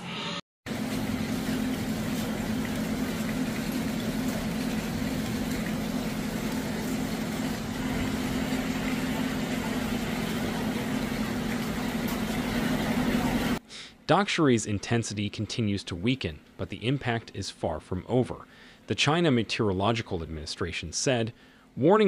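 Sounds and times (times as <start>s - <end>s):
low mechanical hum: 0.7s - 21.8s.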